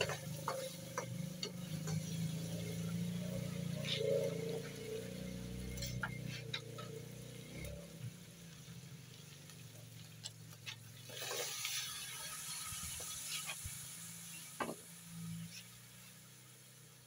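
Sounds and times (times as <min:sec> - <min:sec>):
vegetables sizzling in a wok: 0:00.0 - 0:17.0.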